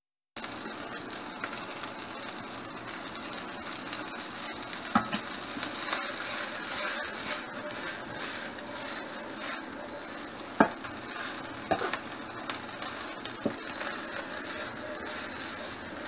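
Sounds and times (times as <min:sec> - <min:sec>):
noodles sizzling in a wok: 0:00.4 - 0:16.0.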